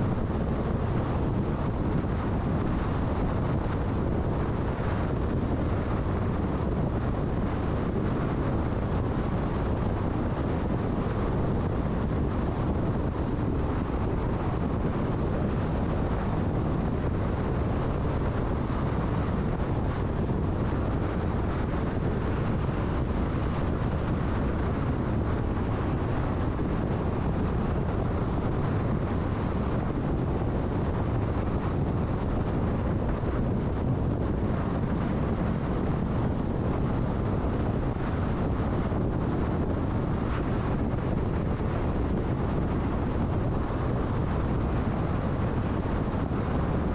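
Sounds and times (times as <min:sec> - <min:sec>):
car road and wind noise: 0:00.0 - 0:46.9.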